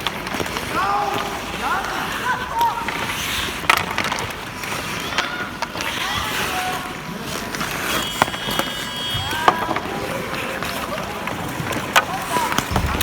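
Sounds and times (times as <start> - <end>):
skate wheels rolling: 0.0 - 13.0
sticks and puck clacking: 0.0 - 13.0.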